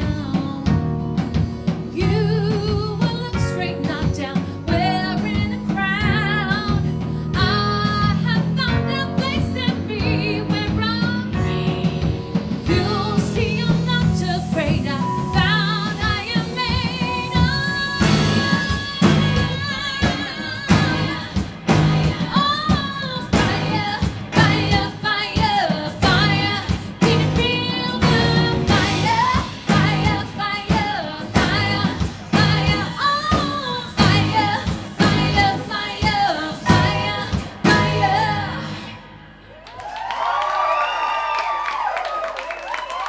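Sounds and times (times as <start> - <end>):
woman singing: 0.0 - 39.1
live pop-rock band playing: 0.0 - 39.6.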